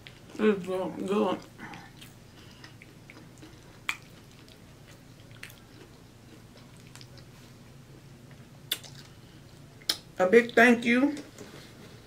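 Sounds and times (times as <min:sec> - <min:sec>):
soft chewing of food: 0:00.0 - 0:10.6.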